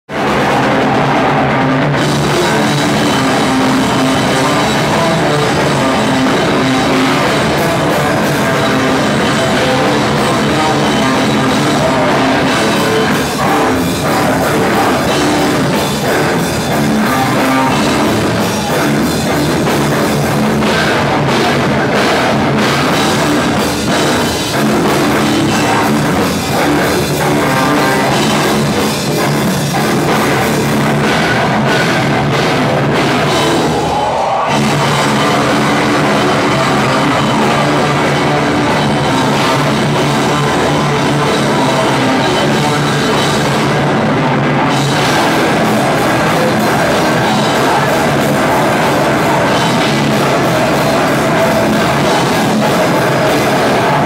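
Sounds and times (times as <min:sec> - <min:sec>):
electric guitar: 0:00.0 - 0:54.0
drum kit: 0:00.1 - 0:54.0.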